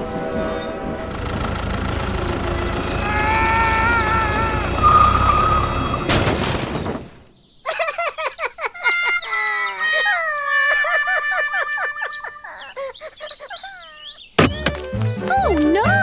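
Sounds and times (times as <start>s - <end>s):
bird calls: 0.0s - 6.1s, 7.2s - 16.0s.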